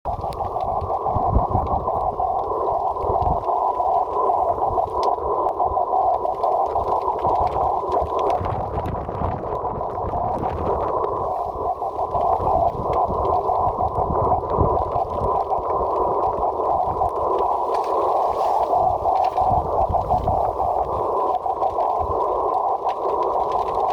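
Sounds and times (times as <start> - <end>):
fluttering radio hiss: 0.1 - 23.9.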